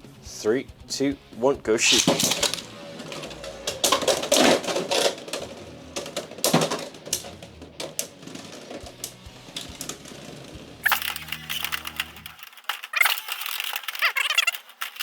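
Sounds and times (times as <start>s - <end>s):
spinning tops clacking: 1.8s - 15.0s.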